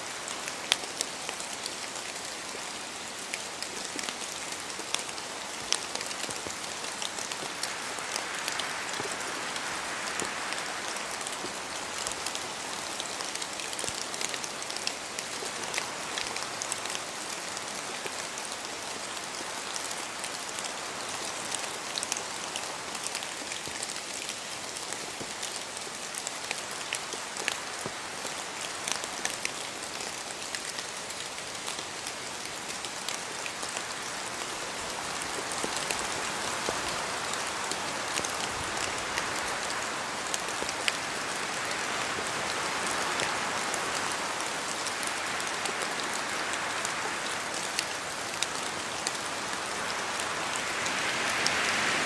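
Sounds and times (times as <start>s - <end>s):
rain falling through trees: 0.0s - 52.0s.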